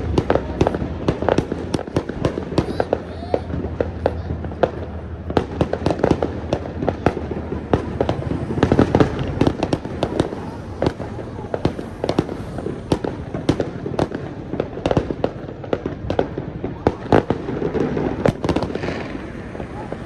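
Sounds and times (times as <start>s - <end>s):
fireworks popping and banging: 0.0s - 20.0s.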